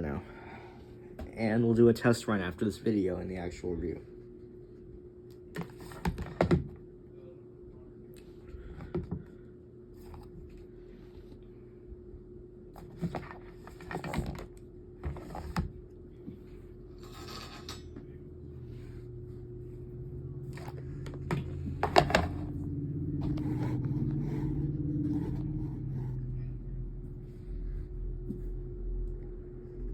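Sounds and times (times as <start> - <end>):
low droning hum: 0.0 - 29.9.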